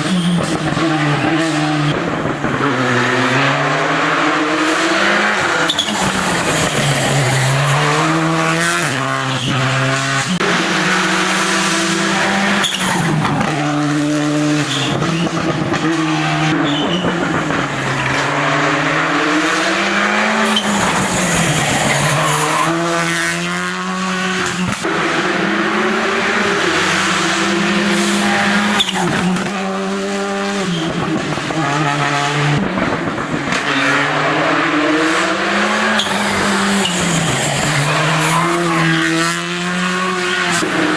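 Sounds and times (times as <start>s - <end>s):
rally car engines accelerating: 0.0s - 40.9s.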